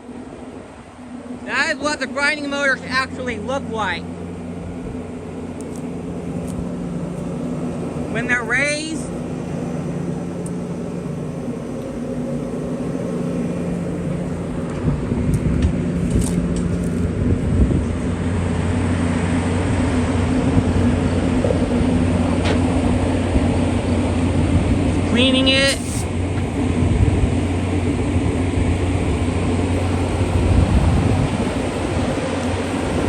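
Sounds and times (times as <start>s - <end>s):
deeper hum: 0.0s - 33.0s
engine drone with low hum: 0.0s - 33.0s.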